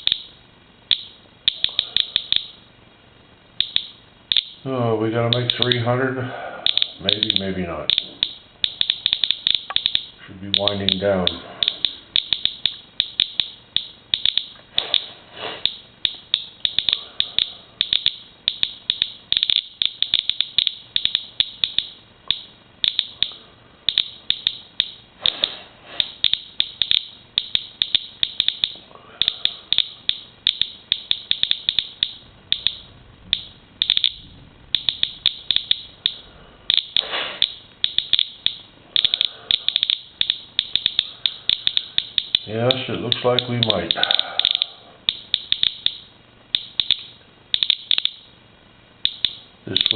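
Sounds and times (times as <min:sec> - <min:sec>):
geiger counter clicking: 0:00.0 - 0:02.6, 0:03.6 - 0:04.6, 0:05.2 - 0:05.9, 0:06.6 - 0:48.4, 0:49.0 - 0:49.9.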